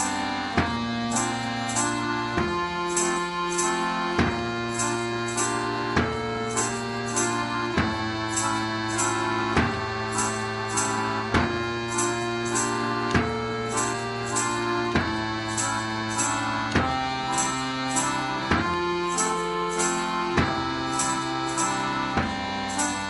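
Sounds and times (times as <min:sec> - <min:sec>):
instrumental music with steady beat: 0:00.0 - 0:23.0.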